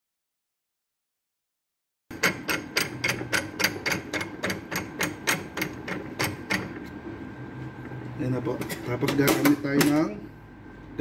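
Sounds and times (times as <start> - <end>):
low machine hum: 2.1 - 11.0.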